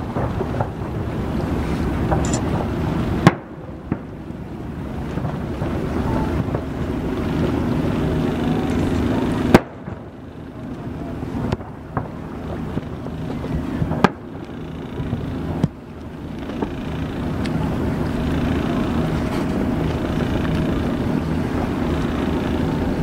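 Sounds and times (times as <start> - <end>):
boat rumble: 0.0 - 23.0
wind on microphone: 0.0 - 23.0
firework shells bursting: 0.1 - 4.2, 5.0 - 23.0.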